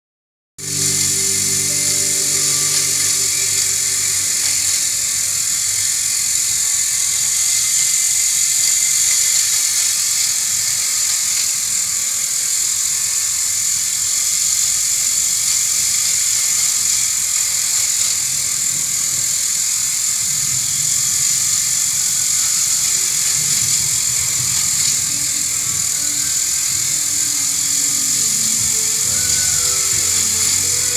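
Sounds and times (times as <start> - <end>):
toy car on metal track: 0.6 - 30.9
toy motor whirring: 0.6 - 30.9.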